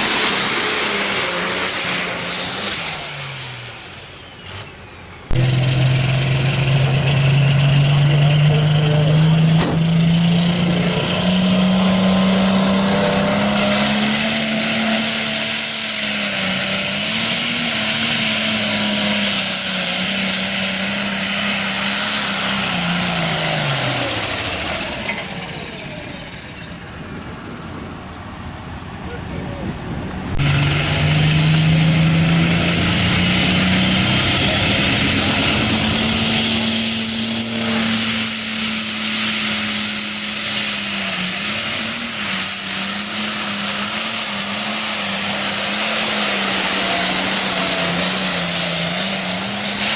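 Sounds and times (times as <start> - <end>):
diesel tractor engine revving: 0.0 - 49.9.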